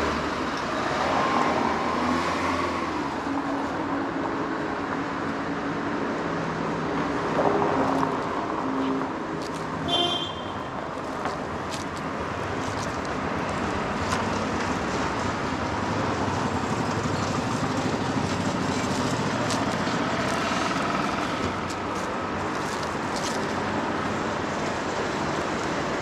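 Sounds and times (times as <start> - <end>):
cars driving along street: 0.0 - 26.0.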